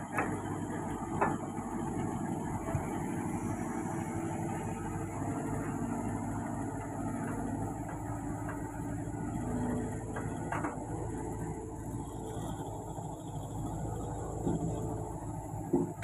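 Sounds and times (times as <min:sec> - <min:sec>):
excavator diesel engine running: 0:00.0 - 0:16.0
hydraulic pump whine: 0:00.0 - 0:16.0.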